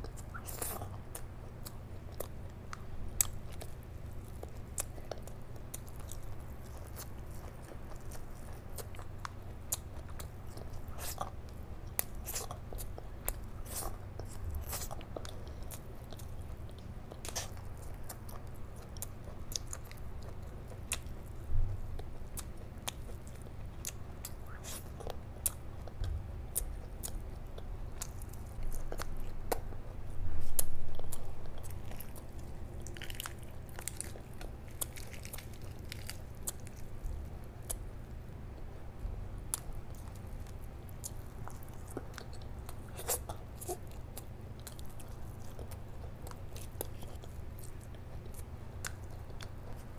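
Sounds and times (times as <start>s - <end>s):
wet chewing and lip-smacking: 0.0s - 38.9s, 39.5s - 49.9s
low steady hum: 0.0s - 49.9s.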